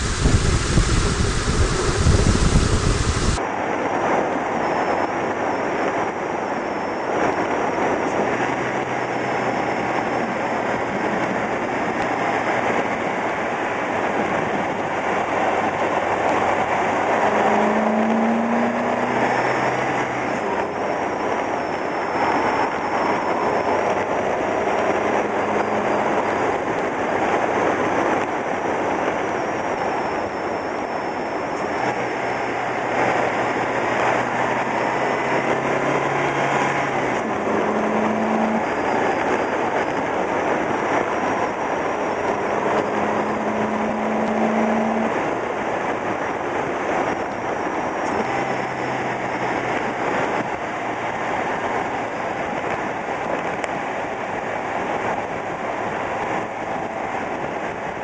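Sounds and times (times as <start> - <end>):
car engine hum: 0.0 - 3.4, 5.2 - 58.0
tyre and road noise: 0.0 - 58.0
wind: 0.0 - 58.0.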